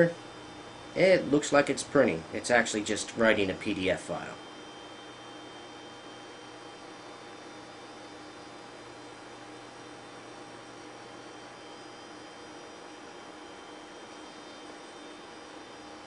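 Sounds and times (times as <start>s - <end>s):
electrical hum and hiss: 0.0s - 16.0s
faint steady tones: 0.0s - 16.0s.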